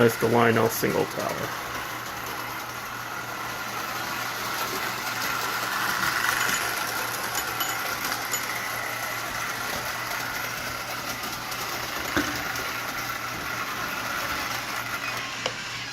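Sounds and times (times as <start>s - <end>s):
toy train motor whirring: 0.0s - 15.9s.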